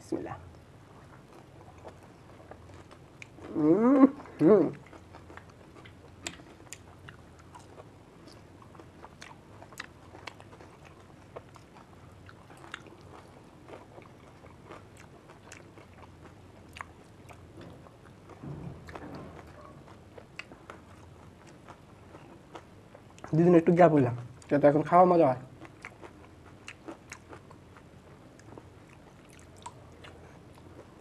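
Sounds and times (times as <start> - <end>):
soft chewing: 0.4 - 23.5, 25.5 - 31.0.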